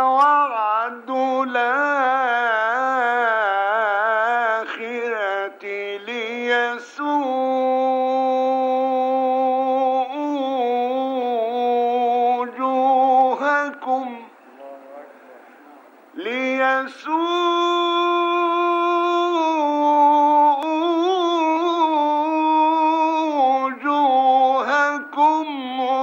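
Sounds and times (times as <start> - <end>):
man chanting melodically: 0.0 - 26.0.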